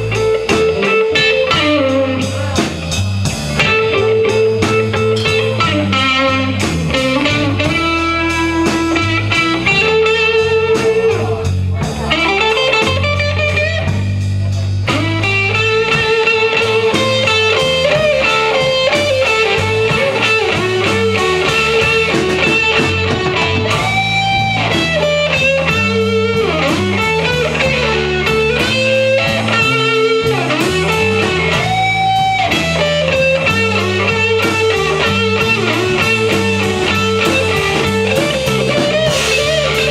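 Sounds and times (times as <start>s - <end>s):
blues band playing: 0.0s - 39.9s
electric guitar bent notes: 0.0s - 39.9s.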